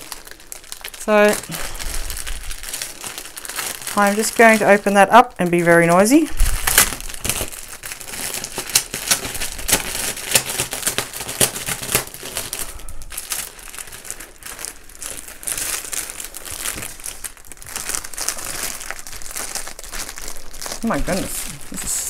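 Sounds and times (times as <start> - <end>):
plastic wrap crinkling: 0.0 - 22.0.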